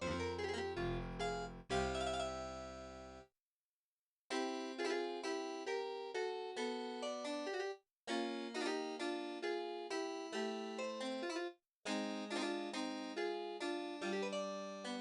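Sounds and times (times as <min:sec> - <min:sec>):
plinking keyboard melody: 0:00.0 - 0:03.2, 0:04.3 - 0:15.0.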